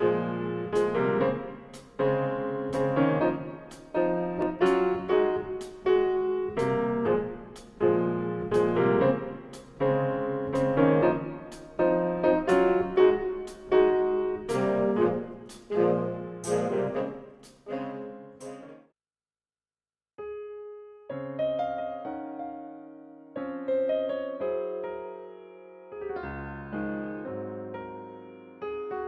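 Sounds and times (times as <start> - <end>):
solo piano music: 0.0 - 18.9, 20.2 - 29.0.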